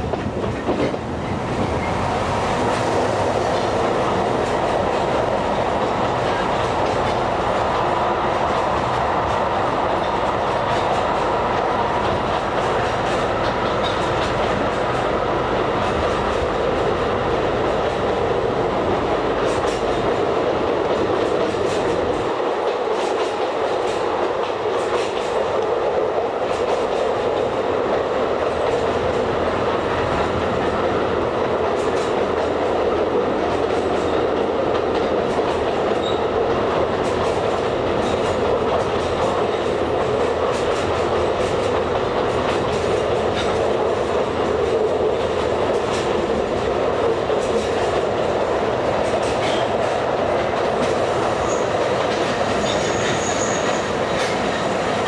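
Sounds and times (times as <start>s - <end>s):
wheels clicking over rail joints: 0.0s - 2.0s, 2.6s - 55.0s
train rolling rumble: 0.0s - 55.0s.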